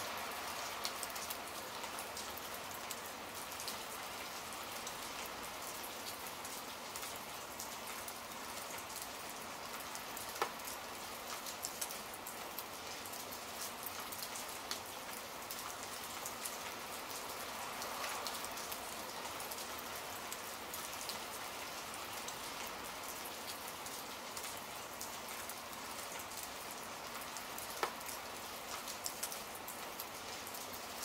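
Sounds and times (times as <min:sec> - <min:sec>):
steady rain pattering: 0:00.0 - 0:31.0.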